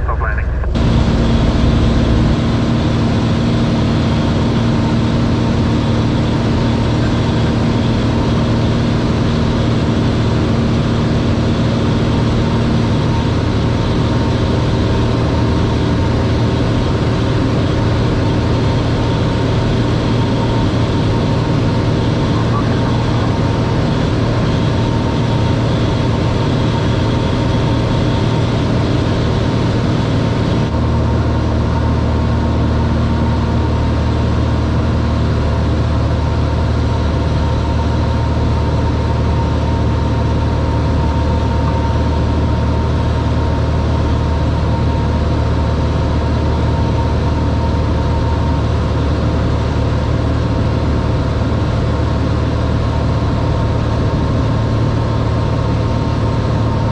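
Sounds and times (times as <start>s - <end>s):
aircraft engine and propeller droning: 0.0s - 56.9s.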